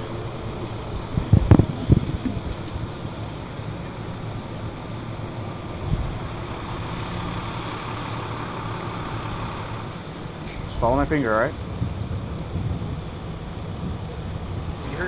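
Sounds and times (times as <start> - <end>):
outdoor background noise: 0.0 - 15.0
vehicle engines idling: 0.0 - 15.0.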